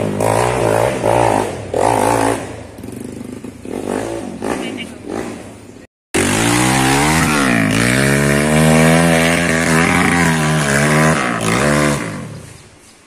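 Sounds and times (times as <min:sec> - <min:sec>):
dirt bike engine revving: 0:00.0 - 0:12.6.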